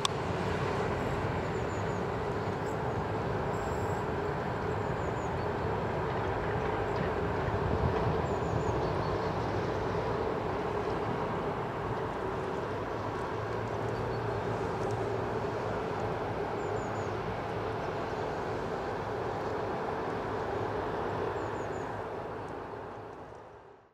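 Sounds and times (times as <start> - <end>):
freight train drone: 0.0 - 23.9.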